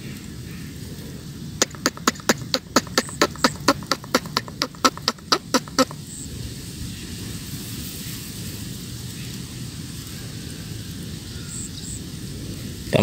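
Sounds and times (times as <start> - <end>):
faint outdoor hiss: 0.0 - 13.0
wind buffeting microphone: 0.0 - 13.0.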